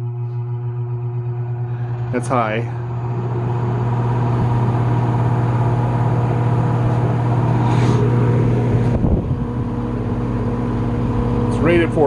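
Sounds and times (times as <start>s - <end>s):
box fan motor hum: 0.0s - 12.0s
rush of air from fan: 1.6s - 12.0s.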